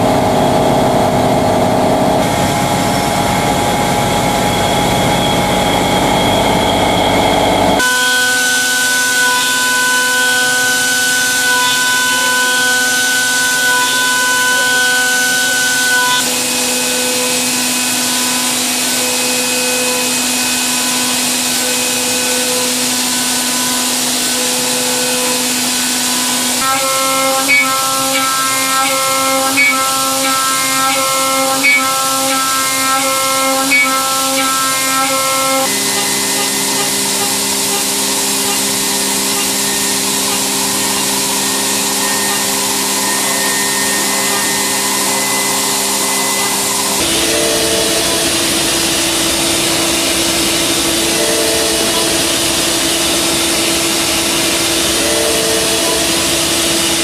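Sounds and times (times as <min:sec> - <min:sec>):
milling machine whine: 0:00.0 - 0:57.0.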